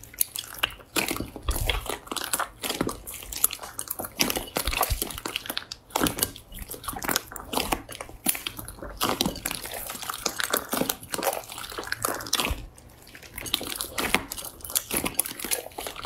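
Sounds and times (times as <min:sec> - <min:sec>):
wet slime squishing: 0:00.0 - 0:16.0.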